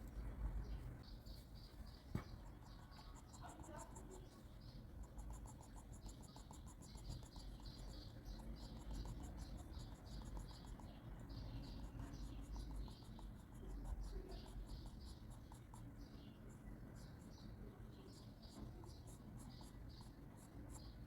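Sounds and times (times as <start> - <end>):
pencil scratching on paper: 2.2 - 21.0.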